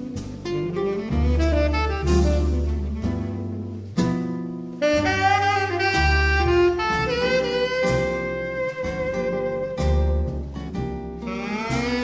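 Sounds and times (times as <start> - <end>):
tenor saxophone melody: 0.0 - 4.0, 4.6 - 10.4, 11.2 - 12.0
double bass: 0.0 - 12.0
drums: 0.0 - 12.0
piano: 0.0 - 12.0.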